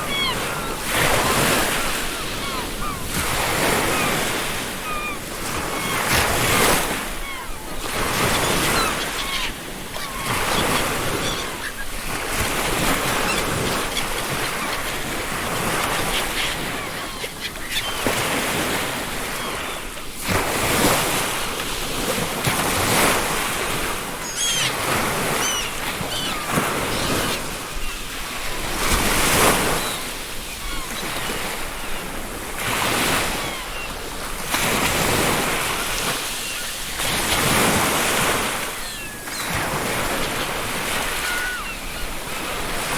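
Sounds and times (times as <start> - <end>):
seagull calls: 0.0 - 20.1, 23.2 - 42.9
surf breaking on a beach: 0.0 - 42.9.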